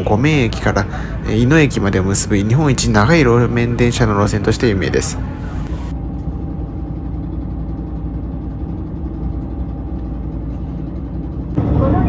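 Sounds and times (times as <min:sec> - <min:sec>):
railcar diesel engine drone: 0:00.0 - 0:12.0.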